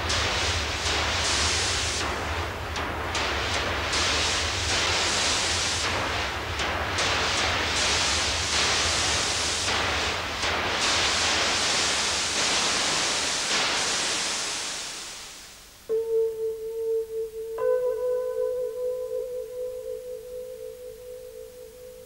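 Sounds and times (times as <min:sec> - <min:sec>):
steady pure tone: 0:00.0 - 0:22.0
steady rushing hiss: 0:00.0 - 0:22.0.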